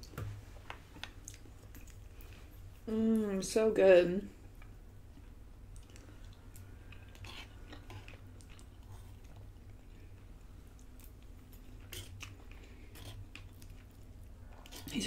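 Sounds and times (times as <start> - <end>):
person chewing food: 0.8 - 2.7, 4.5 - 14.9.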